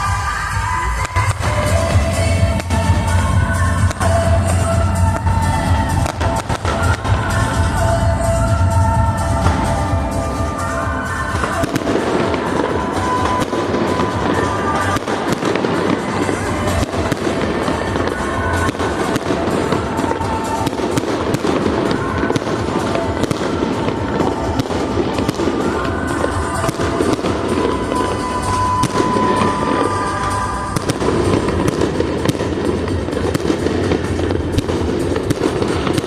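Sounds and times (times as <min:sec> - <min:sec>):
fireworks bangs and crackling: 0:00.0 - 0:36.0
music playing: 0:00.0 - 0:36.0.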